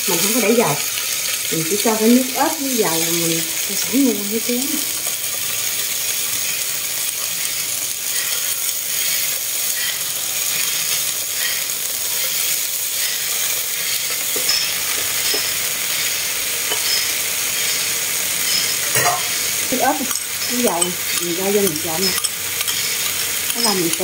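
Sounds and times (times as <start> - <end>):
skewers sizzling in grill pan: 0.0 - 24.0.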